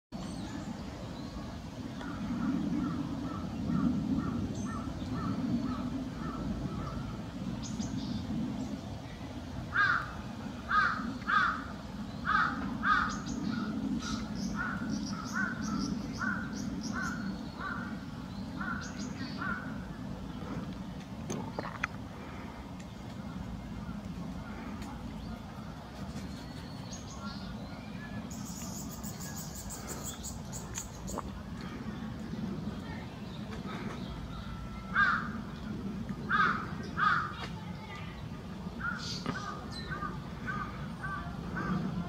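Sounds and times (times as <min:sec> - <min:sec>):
low rumble: 0:00.2 - 0:37.4.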